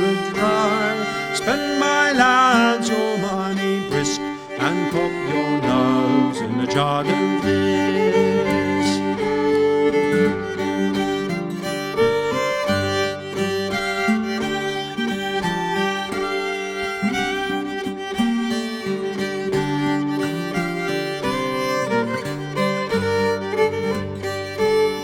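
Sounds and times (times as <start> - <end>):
fiddle playing folk tune: 0.0 - 25.0
string accompaniment: 0.0 - 25.0.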